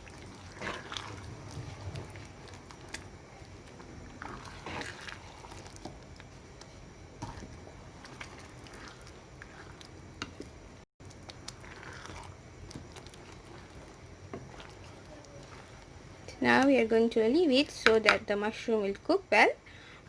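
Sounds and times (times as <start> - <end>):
spoon stirring sauce in a pan: 0.0 - 16.9.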